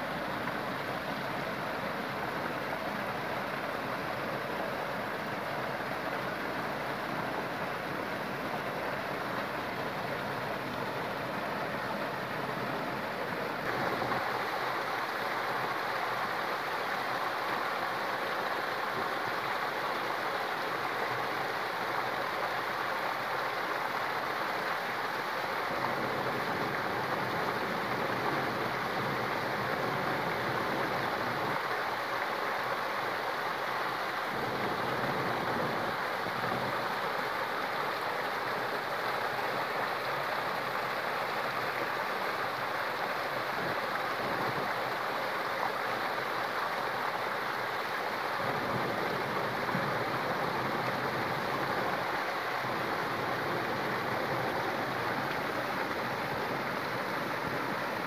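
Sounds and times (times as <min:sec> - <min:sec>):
waterfall splashing into pool: 0:00.0 - 0:58.0.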